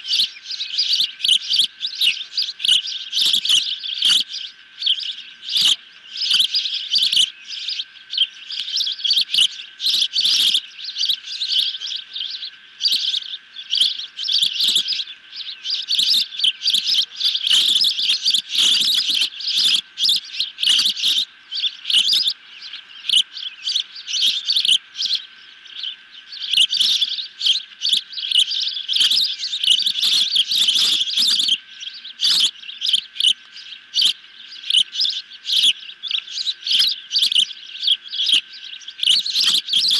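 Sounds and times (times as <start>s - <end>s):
bird chicks chirping and whistling: 0.0s - 39.9s.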